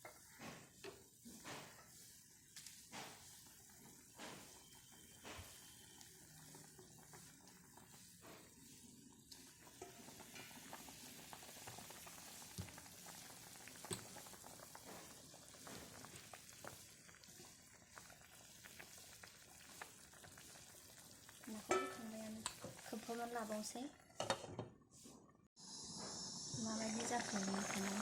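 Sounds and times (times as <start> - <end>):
curry bubbling in a pan: 0.0 - 24.3, 26.6 - 28.0.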